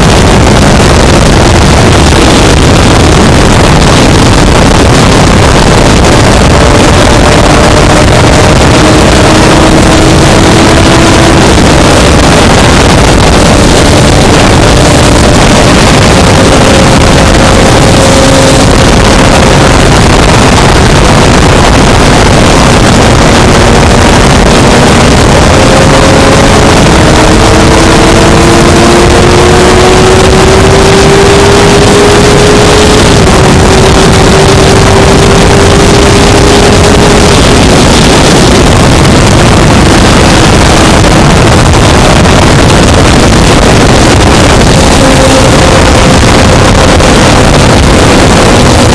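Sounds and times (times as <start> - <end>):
motorcycle engine: 0.0 - 48.9
wind rushing over microphone: 0.0 - 48.9.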